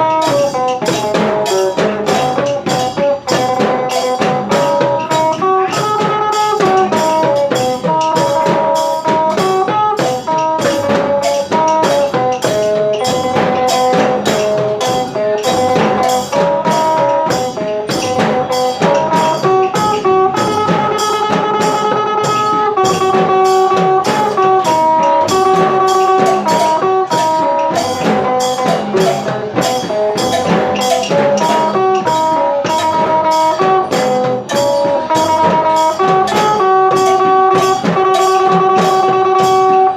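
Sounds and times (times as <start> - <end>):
steady drum beat: 0.0 - 39.9.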